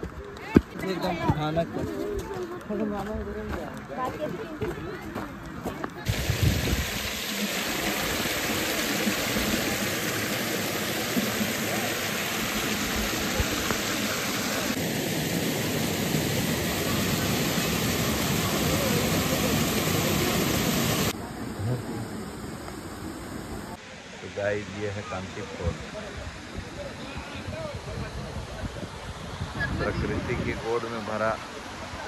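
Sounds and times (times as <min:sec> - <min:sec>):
waterfall rushing and splashing: 0:06.1 - 0:32.0.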